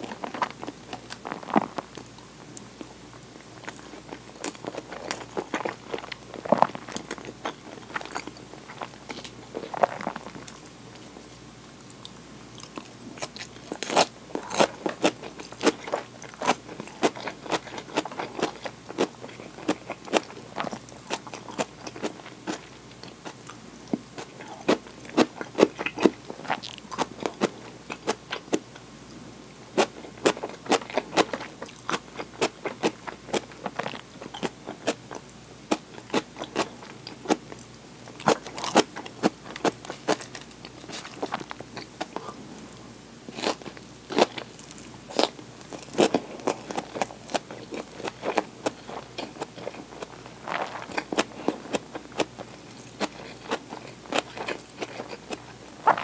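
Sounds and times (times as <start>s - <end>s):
person chewing and biting food: 0.0s - 10.7s, 12.0s - 23.6s, 29.8s - 42.4s, 43.3s - 56.0s.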